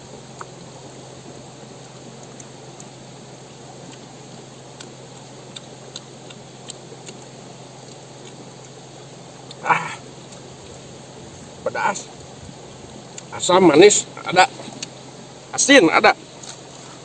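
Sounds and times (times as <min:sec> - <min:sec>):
fruit being chewed: 0:00.0 - 0:15.1, 0:16.2 - 0:17.0.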